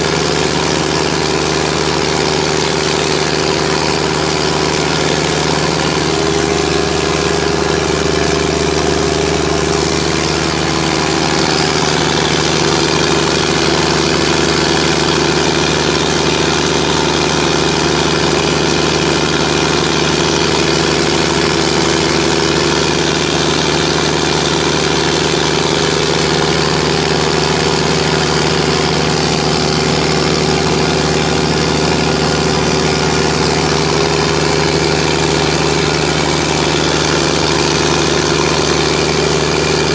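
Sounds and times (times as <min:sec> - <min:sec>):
diesel generator running: 0:00.0 - 0:39.9.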